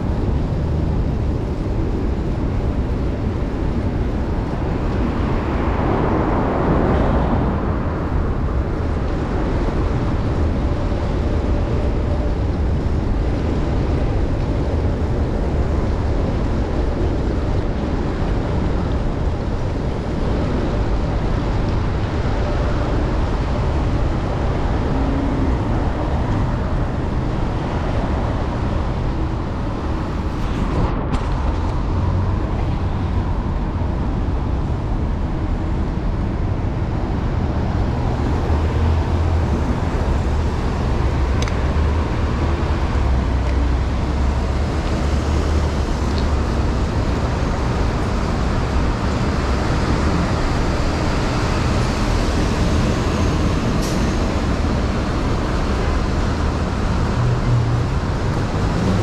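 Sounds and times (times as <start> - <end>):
road and traffic noise: 0.0 - 59.0.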